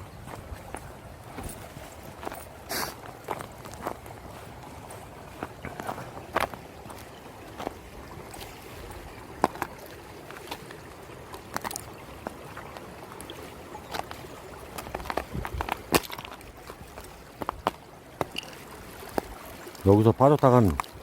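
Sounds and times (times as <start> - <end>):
footsteps on rocky trail: 0.0 - 19.9, 20.6 - 21.0
stream running: 0.0 - 21.0.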